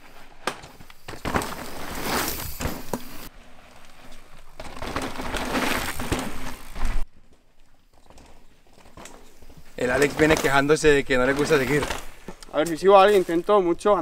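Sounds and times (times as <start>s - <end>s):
bike tyres rolling over dirt: 0.0s - 14.0s
bike knocking over roots: 0.4s - 14.0s.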